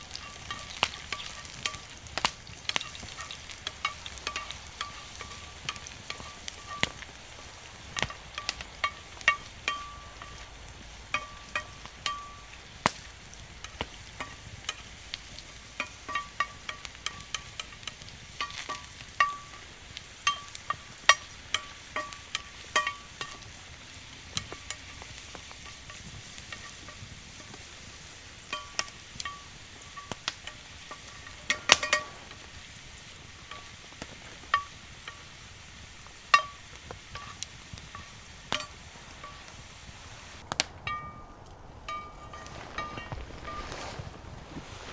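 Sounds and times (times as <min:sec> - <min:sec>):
low steady hiss: 0:00.0 - 0:44.9
wood fire crackling and popping: 0:00.0 - 0:44.9.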